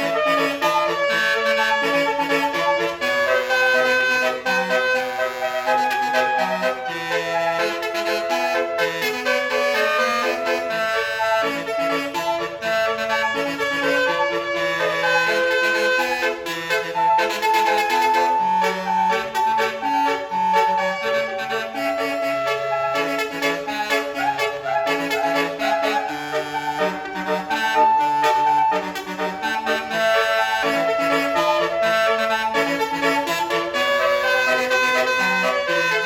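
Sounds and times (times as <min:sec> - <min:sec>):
bus air horn playing a melody: 0:00.0 - 0:36.0.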